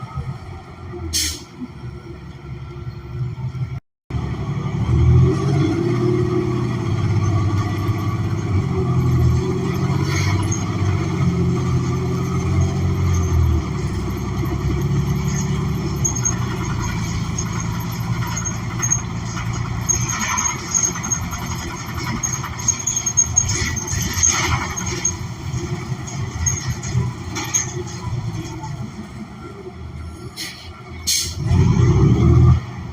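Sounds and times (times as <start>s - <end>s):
bus engine running: 0.0s - 32.9s.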